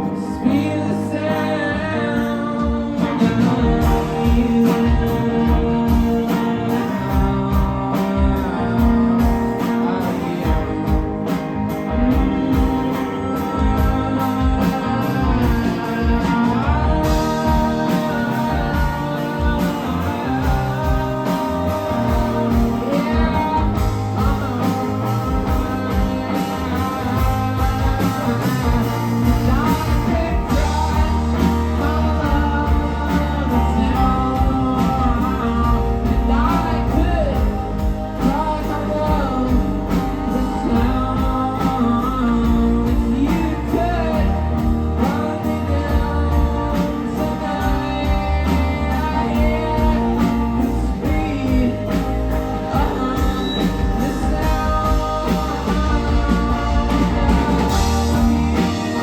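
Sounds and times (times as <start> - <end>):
bending lead guitar line: 0.0 - 59.0
driving drum beat: 0.0 - 59.0
electric guitars: 0.0 - 59.0
person singing: 0.0 - 59.0.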